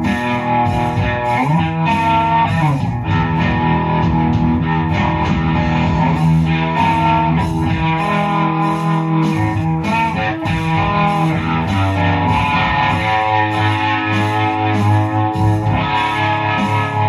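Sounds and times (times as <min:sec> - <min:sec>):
electric guitar rock music: 0:00.0 - 0:17.0.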